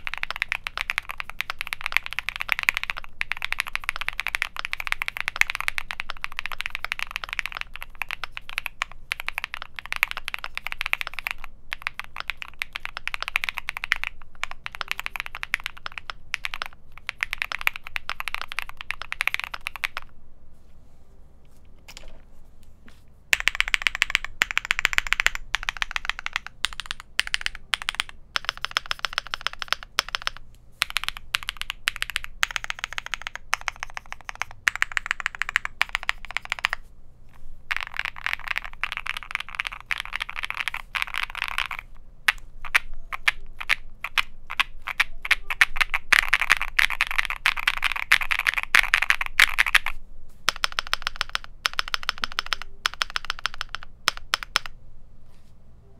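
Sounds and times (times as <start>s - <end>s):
fast mechanical keyboard typing: 0.0s - 20.1s, 23.4s - 36.8s, 37.7s - 54.8s.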